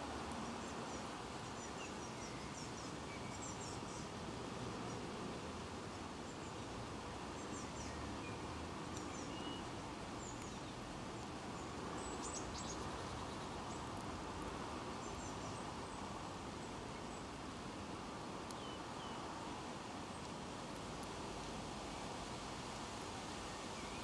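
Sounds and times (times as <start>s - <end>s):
outdoor background hiss: 0.0s - 24.0s
songbirds chirping: 0.3s - 22.2s.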